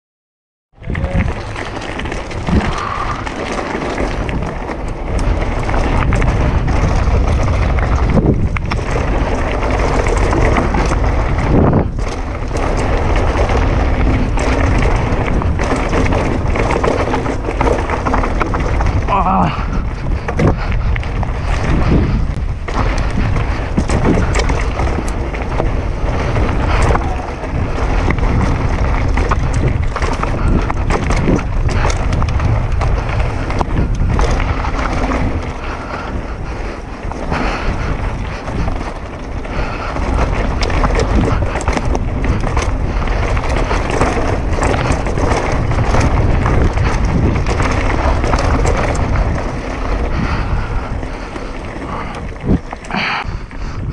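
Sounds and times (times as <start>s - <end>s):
bike clicks and rattles: 0.8s - 53.9s
bike tyres on dirt trail: 0.8s - 53.9s
wind buffeting microphone: 0.8s - 53.9s.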